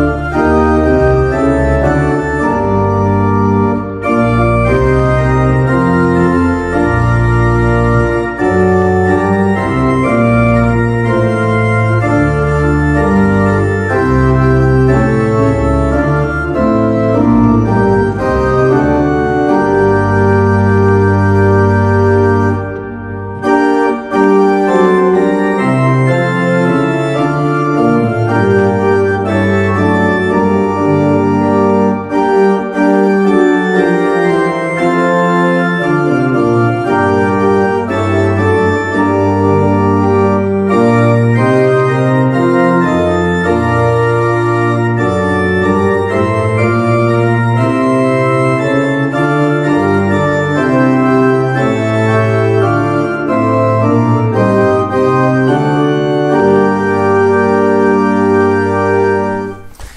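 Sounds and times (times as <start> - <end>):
church organ playing hymn: 0.0 - 59.9.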